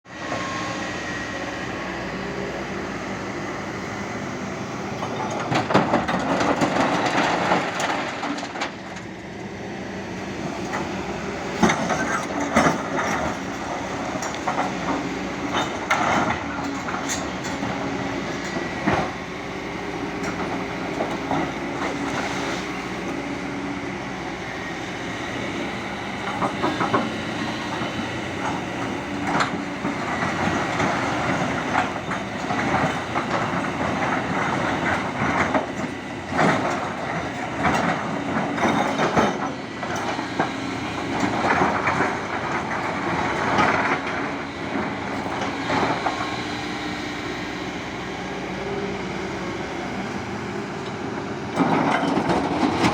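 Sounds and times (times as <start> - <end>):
excavator diesel engine: 0.1 - 52.9.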